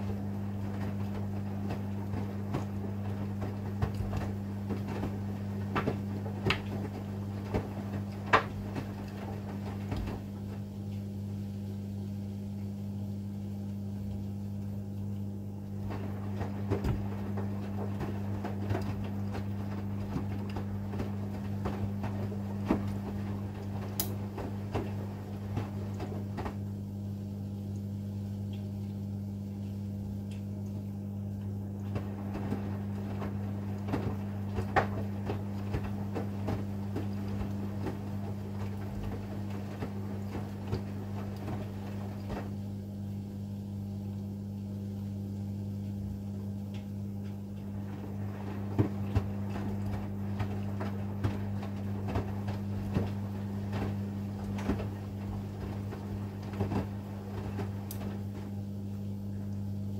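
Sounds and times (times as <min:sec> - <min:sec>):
water sloshing and knocks: 0:00.0 - 0:11.1, 0:15.7 - 0:26.9, 0:30.3 - 0:43.1, 0:45.8 - 0:58.8
steady low hum: 0:00.0 - 0:59.9
washing machine drum tumbling: 0:00.0 - 0:59.9.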